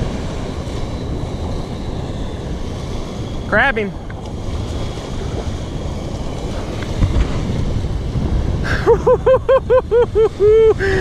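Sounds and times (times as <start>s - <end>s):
surf on beach: 0.0s - 11.0s
wind buffeting microphone: 0.0s - 11.0s.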